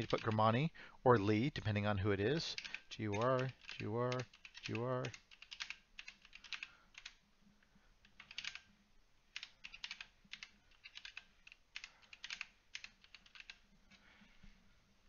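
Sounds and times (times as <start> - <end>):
faint keyboard typing: 0.0 - 1.5, 2.2 - 14.2.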